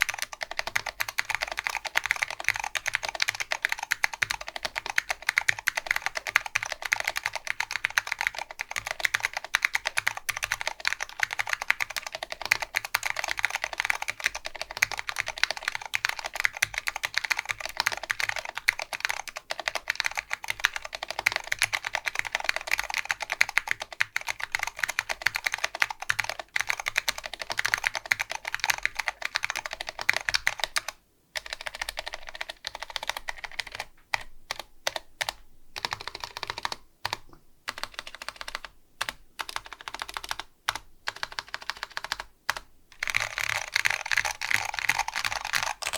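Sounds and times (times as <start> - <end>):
mechanical keyboard typing: 0.0 - 45.9.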